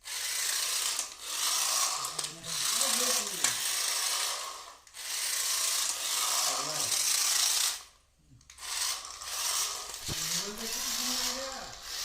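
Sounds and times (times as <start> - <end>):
toy car electric motor whirring: 0.0 - 12.0.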